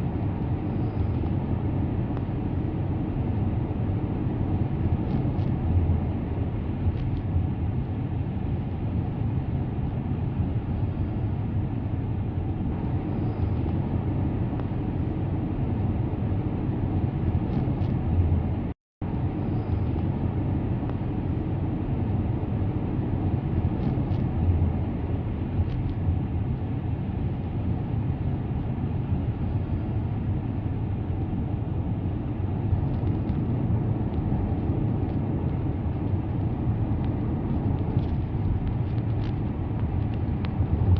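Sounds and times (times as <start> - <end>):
car interior road rumble: 0.0 - 40.9.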